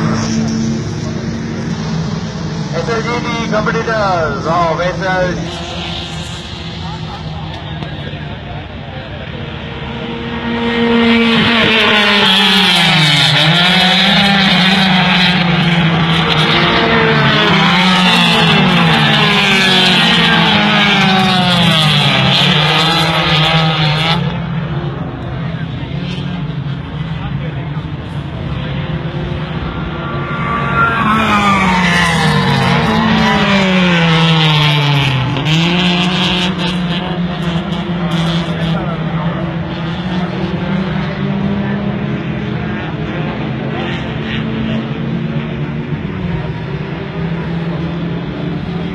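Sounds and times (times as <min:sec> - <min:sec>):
racing car engines at full throttle: 0:00.0 - 0:48.9.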